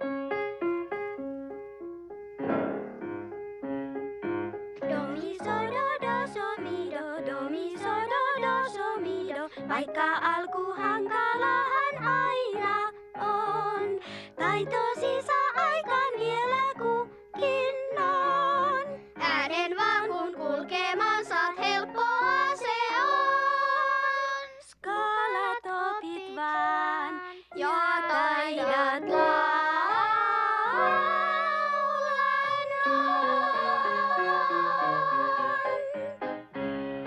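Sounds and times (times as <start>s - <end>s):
piano accompaniment: 0.0s - 24.5s, 26.6s - 37.0s
woman and girl singing: 4.8s - 36.2s.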